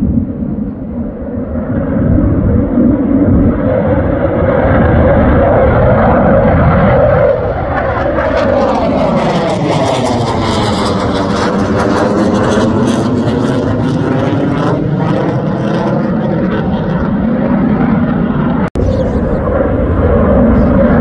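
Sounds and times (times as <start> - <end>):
fighter jet flying overhead: 0.0 - 21.0.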